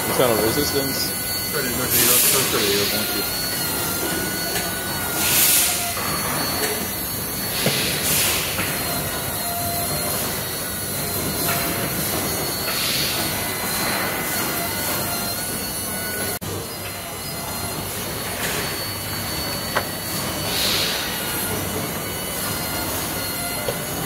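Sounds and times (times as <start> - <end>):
factory machinery hum and whine: 0.0 - 24.0.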